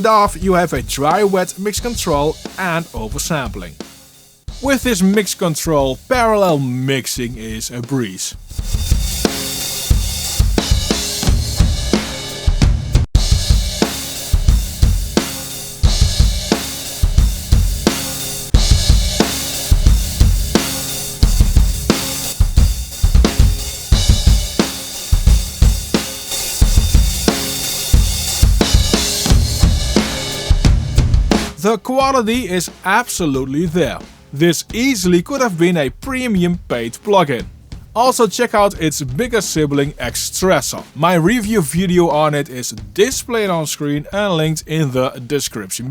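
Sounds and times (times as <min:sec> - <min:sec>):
drum-heavy music: 0:00.0 - 0:45.9.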